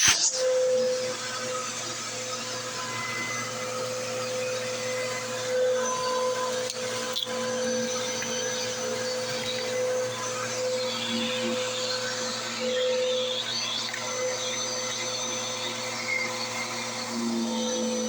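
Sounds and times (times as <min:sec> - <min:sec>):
vacuum cleaner running over carpet: 0:00.0 - 0:18.0.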